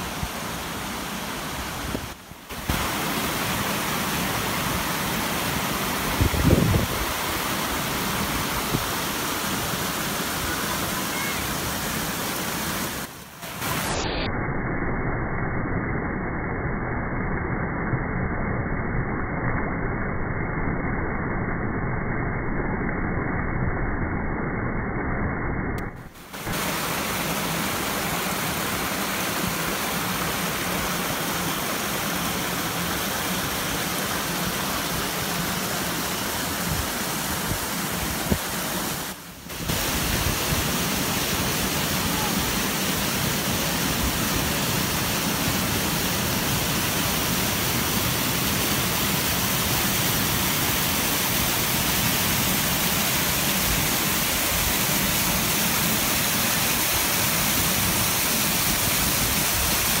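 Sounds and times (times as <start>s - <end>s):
waterfall rushing: 0.0s - 14.2s, 25.9s - 60.0s.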